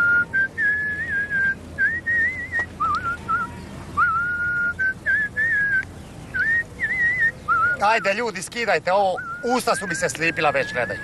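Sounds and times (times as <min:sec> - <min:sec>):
person whistling a tune: 0:00.0 - 0:05.8, 0:06.4 - 0:08.1, 0:09.2 - 0:11.0.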